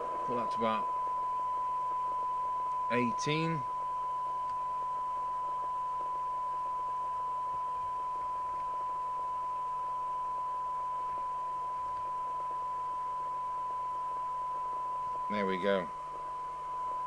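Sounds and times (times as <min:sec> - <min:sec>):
faint low hum: 0:00.0 - 0:17.0
steady radio test tone: 0:00.0 - 0:17.0.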